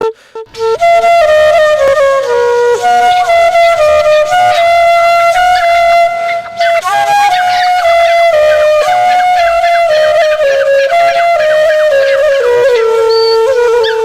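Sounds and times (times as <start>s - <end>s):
flute-like wind instrument melody: 0.0s - 14.0s.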